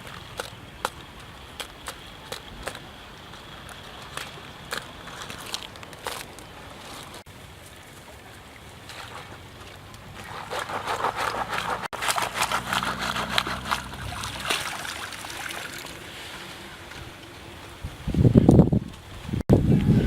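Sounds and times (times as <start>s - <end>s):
water sloshing and trickling: 0.0s - 19.4s.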